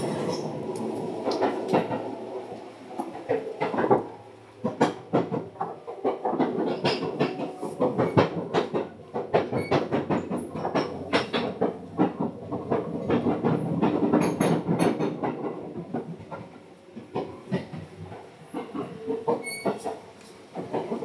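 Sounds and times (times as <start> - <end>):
train running gear rumble: 0.0 - 21.0
wheels clattering over track: 0.0 - 21.0.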